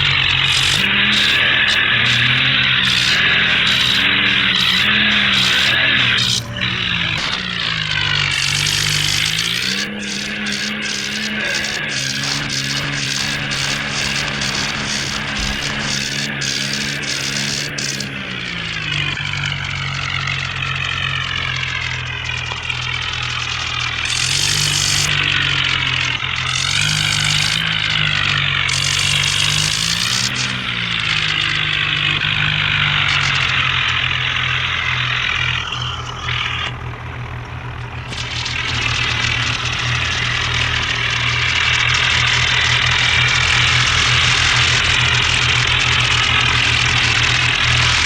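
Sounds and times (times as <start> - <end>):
bulldozer engine chugging: 0.0 - 48.0.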